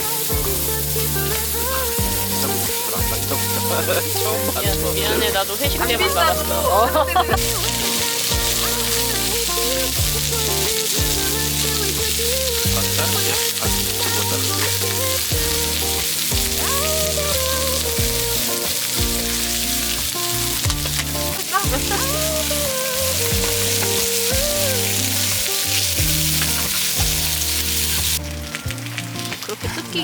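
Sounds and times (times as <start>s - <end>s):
background music with melody: 0.0s - 30.0s
meat sizzling in a pan: 0.0s - 30.0s.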